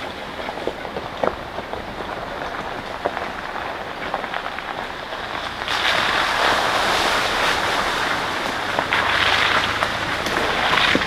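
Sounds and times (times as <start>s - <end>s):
sharp ticks under tyres: 0.0s - 11.0s
vehicle driving on dirt trail: 0.0s - 11.0s
water splashing under tyres: 0.0s - 11.0s.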